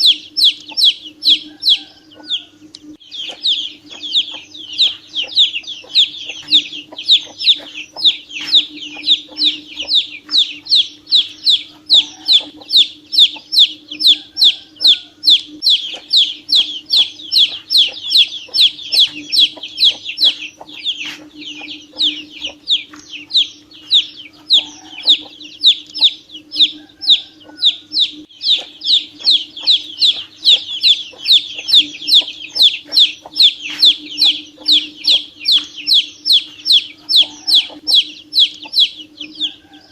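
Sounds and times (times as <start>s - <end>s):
chick peeping: 0.0s - 39.9s
steady low hum: 0.0s - 39.9s.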